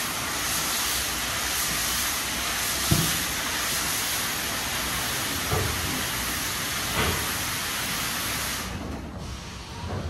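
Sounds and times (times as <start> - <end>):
car wash water spray hissing: 0.0 - 9.8.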